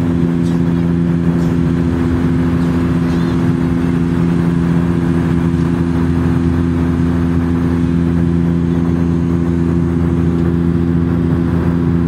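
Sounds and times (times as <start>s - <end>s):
propeller hum: 0.0s - 12.0s.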